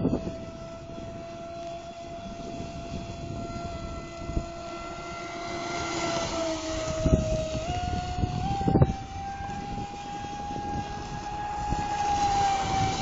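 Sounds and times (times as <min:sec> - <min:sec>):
electric motor high whine: 0:00.0 - 0:13.0.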